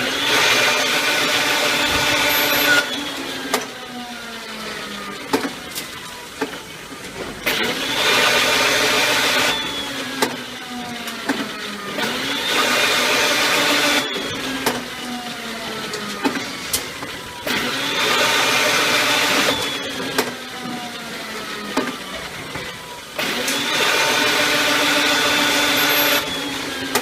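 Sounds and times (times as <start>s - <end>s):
electric motor running and whining: 0.0s - 6.5s, 7.4s - 27.0s.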